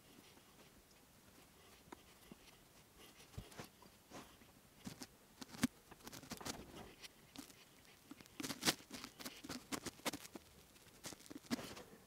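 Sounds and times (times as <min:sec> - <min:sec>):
wires rustling: 0:00.0 - 0:12.0.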